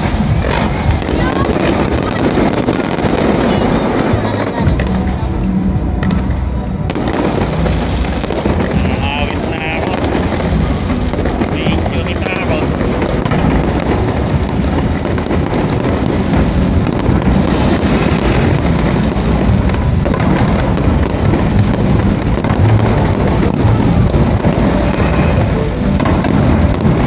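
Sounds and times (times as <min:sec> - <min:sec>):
fireworks crackling: 0:00.0 - 0:27.0.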